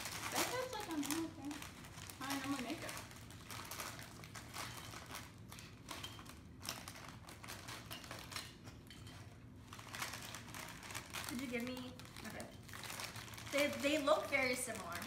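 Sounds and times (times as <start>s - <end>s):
plastic chip bags crinkling: 0.0s - 15.0s.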